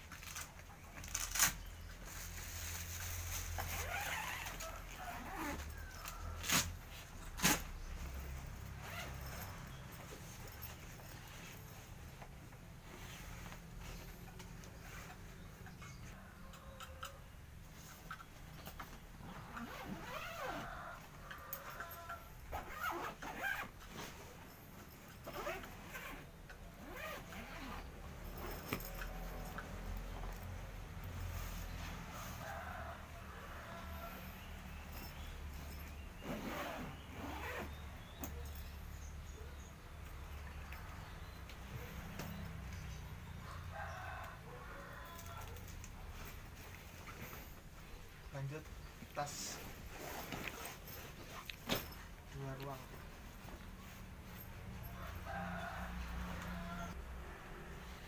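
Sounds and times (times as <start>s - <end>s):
fabric rustling: 0.0s - 16.2s, 17.7s - 57.0s.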